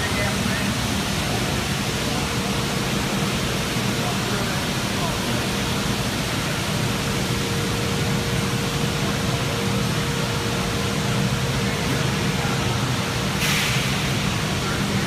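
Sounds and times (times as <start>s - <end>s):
industrial hum and hiss: 0.0s - 15.0s.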